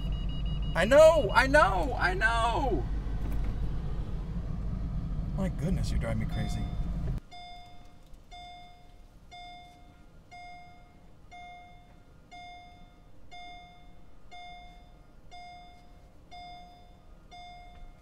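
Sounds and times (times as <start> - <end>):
car warning chime bongs: 0.0 - 2.5, 5.7 - 18.0.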